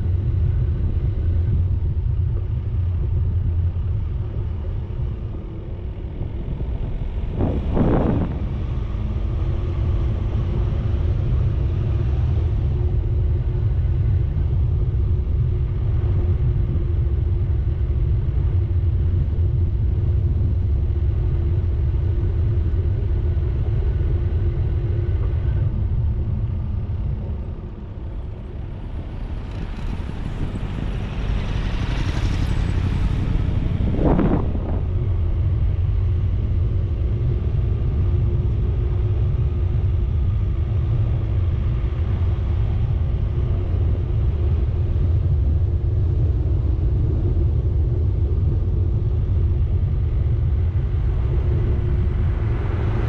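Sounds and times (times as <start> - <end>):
vehicle driving rumble: 0.0 - 53.0.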